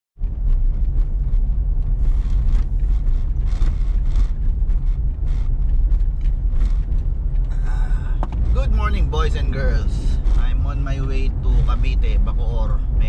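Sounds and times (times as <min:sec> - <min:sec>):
car cabin engine and road rumble: 0:00.2 - 0:13.0
light clicks and rattles: 0:00.2 - 0:13.0.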